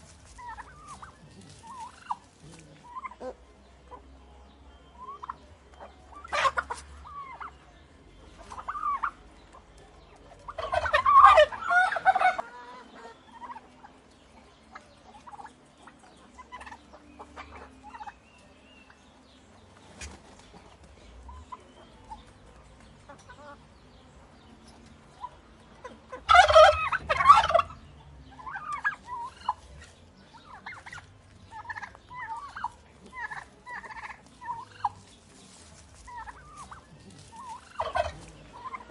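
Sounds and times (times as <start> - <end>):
turkey clucks and short calls: 0.0 - 4.2, 4.8 - 18.2, 24.7 - 38.9
turkeys gobbling: 0.0 - 4.2, 4.8 - 23.6, 24.8 - 38.9.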